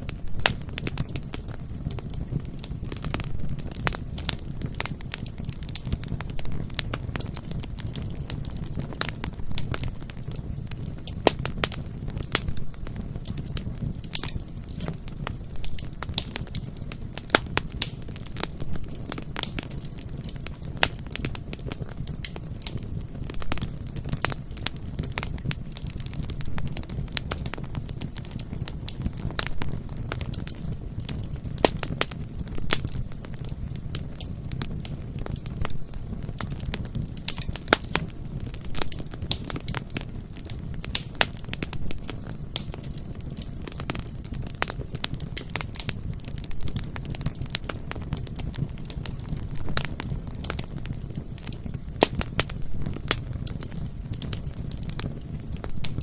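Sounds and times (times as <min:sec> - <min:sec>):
bonfire flames rumbling: 0:00.0 - 0:56.0
wood crackling and popping: 0:00.0 - 0:56.0.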